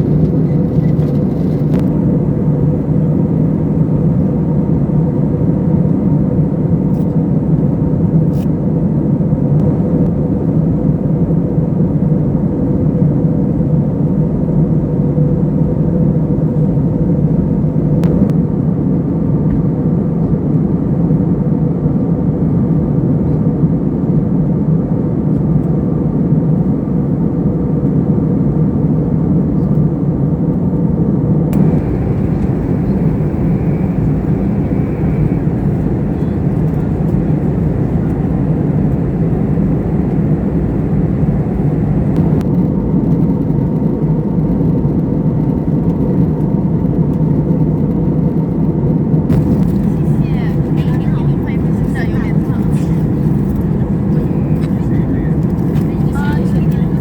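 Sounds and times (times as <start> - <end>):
jet airliner cabin noise: 0.0 - 57.0.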